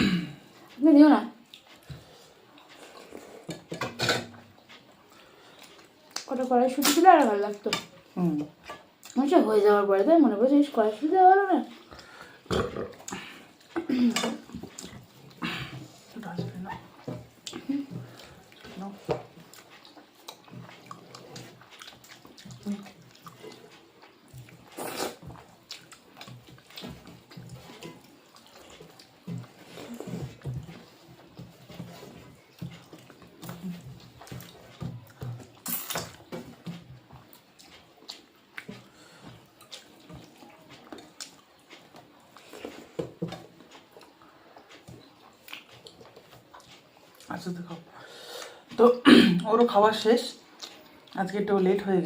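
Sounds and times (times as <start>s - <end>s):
soft chewing and mouth sounds: 0.0s - 52.0s.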